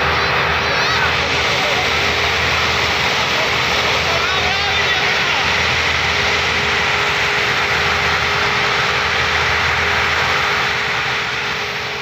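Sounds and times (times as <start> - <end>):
tractor engines under heavy load: 0.0 - 12.0.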